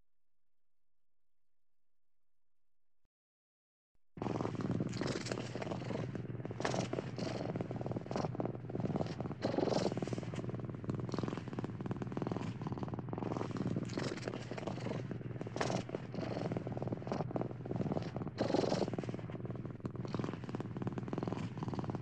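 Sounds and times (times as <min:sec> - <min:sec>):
cat purring: 0:04.2 - 0:22.0.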